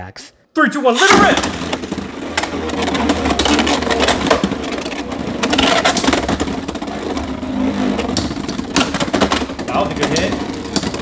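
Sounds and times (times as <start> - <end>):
spinning tops whirring: 1.0 - 11.0.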